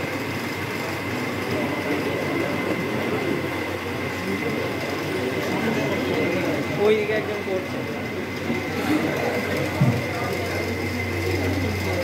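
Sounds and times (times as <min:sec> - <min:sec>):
crowd talking: 0:00.0 - 0:12.0.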